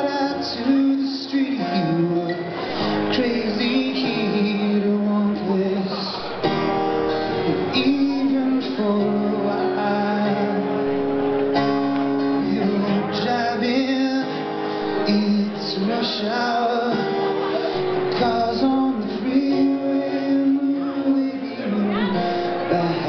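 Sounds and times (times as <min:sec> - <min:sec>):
man singing: 0:00.0 - 0:06.6, 0:07.2 - 0:23.0
strummed acoustic guitar: 0:00.0 - 0:23.0.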